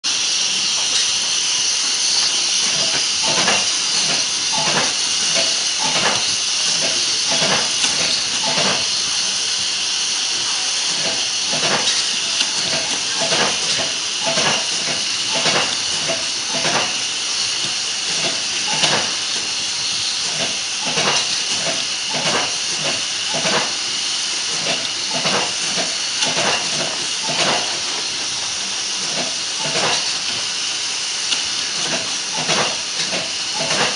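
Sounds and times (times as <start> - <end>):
hot air blower hissing: 0.0 - 33.9.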